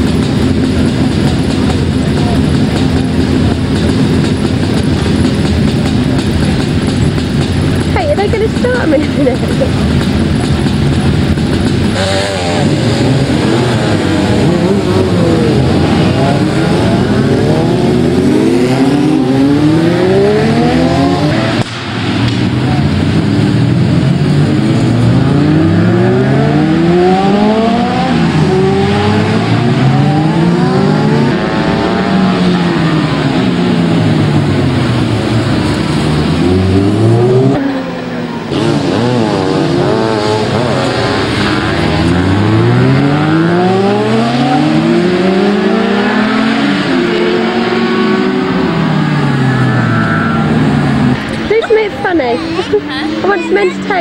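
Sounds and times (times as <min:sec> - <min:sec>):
racing motorcycle engines: 0:00.0 - 0:54.0.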